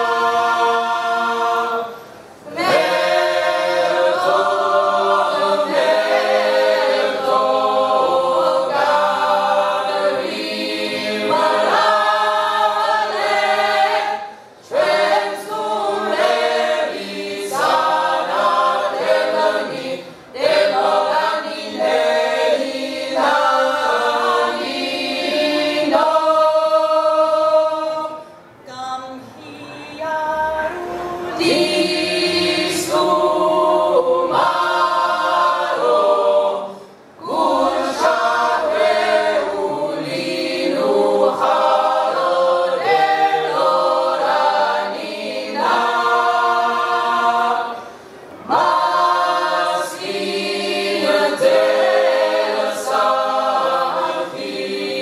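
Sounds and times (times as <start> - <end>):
mixed choir singing a cappella: 0.0 - 55.0.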